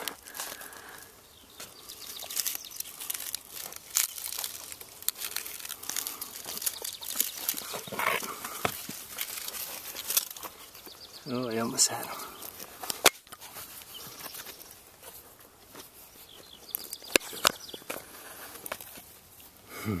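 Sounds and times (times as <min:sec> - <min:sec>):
hand scraping rock and debris: 0:00.0 - 0:19.6
camera rubbing against stone: 0:01.6 - 0:19.2.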